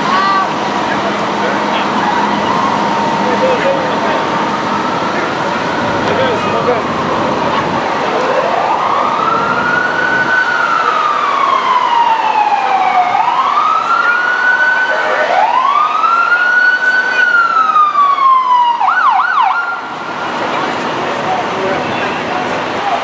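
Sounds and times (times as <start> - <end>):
fire truck siren wailing: 0.0 - 23.0.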